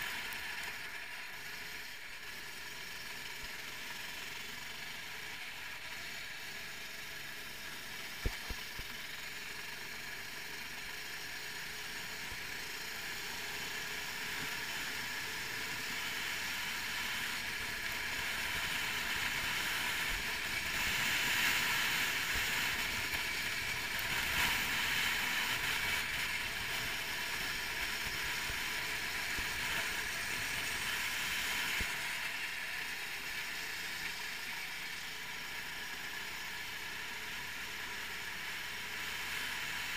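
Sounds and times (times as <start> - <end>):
kart engine running at speed: 0.0 - 39.9.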